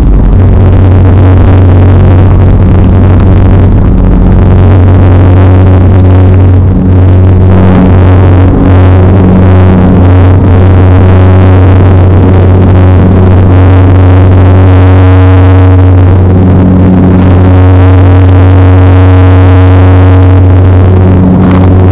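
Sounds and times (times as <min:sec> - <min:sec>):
rushing noise: 0:00.0 - 0:21.9
turboprop engine drone: 0:00.0 - 0:21.9.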